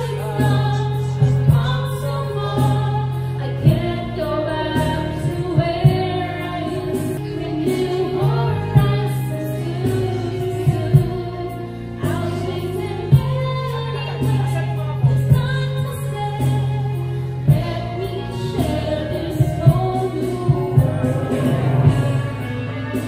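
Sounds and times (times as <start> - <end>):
music backing track: 0.0 - 23.0
woman singing into a microphone: 0.0 - 23.0.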